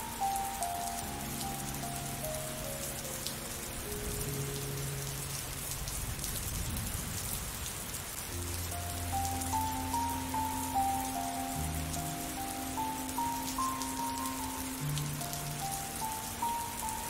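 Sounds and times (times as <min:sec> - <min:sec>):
soft music of held notes: 0:00.0 - 0:06.1, 0:08.2 - 0:17.0
steady rain falling: 0:00.0 - 0:17.0.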